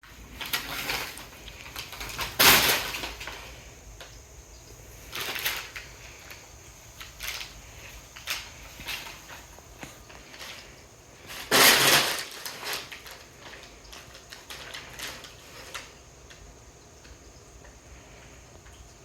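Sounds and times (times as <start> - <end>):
packaging rustling and crinkling: 0.0 - 4.2, 5.0 - 16.4.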